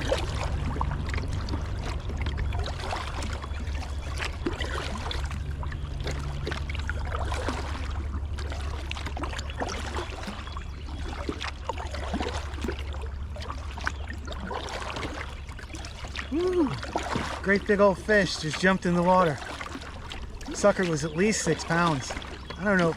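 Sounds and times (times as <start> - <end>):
steady low rumble: 0.0 - 22.9
water splashing and trickling: 0.0 - 22.9.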